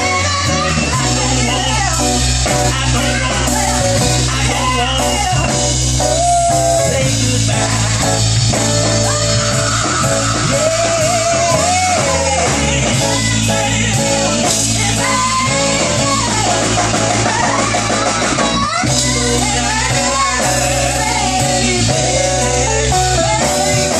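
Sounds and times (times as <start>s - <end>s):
drums: 0.0s - 23.9s
electric guitar: 0.0s - 23.9s
person singing: 0.0s - 23.9s.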